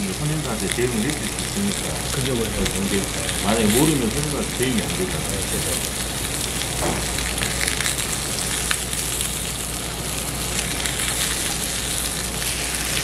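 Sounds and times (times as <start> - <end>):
fat popping and crackling: 0.0 - 13.0
pork sizzling on grill: 0.0 - 13.0.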